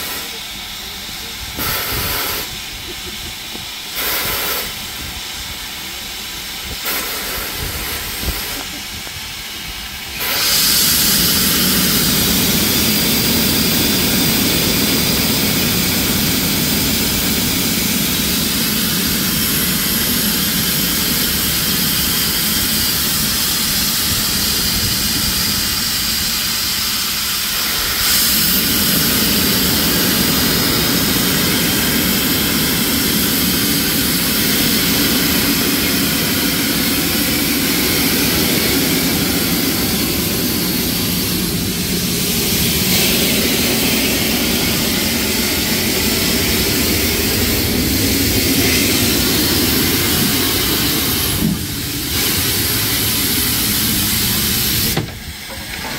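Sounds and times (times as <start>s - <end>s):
steam locomotive hissing steam: 0.0s - 55.9s.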